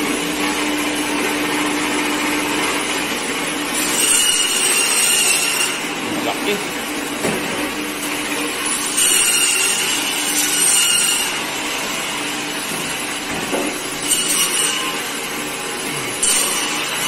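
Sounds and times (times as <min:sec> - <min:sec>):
bandsaw cutting through bone: 0:00.0 - 0:06.8, 0:08.3 - 0:17.0.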